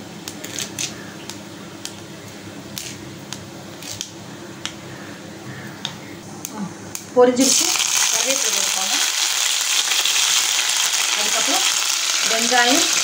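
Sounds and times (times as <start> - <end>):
faint steady hum: 0.0 - 13.0
seeds popping in hot oil: 0.2 - 4.8, 5.8 - 13.0.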